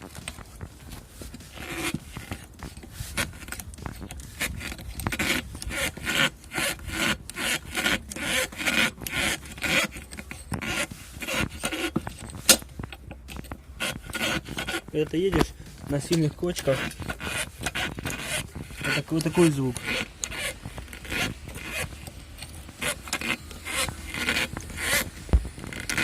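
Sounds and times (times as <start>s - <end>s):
suspension creaking and grating: 0.0s - 26.0s.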